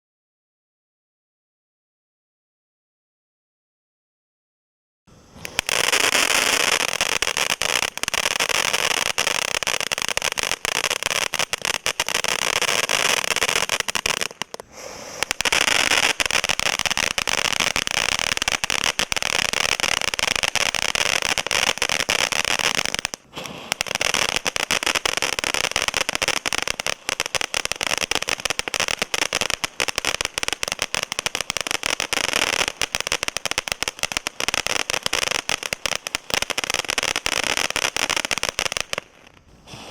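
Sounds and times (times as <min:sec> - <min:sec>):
firework fountains hissing and crackling: 0:05.1 - 0:39.9.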